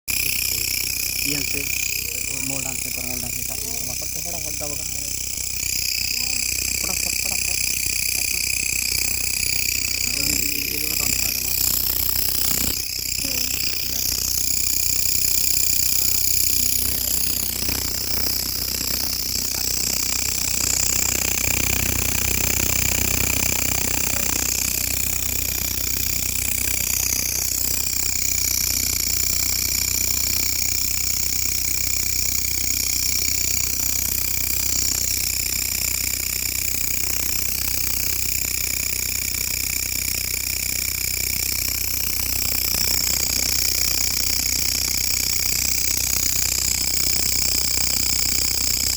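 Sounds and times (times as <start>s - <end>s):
insect buzzing trill: 0.1s - 48.9s.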